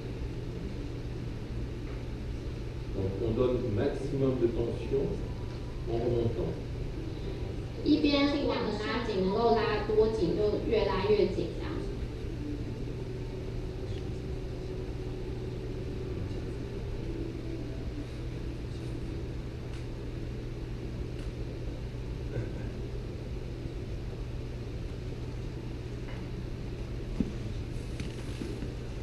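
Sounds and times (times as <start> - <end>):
low hum and rumble: 0.0 - 29.0.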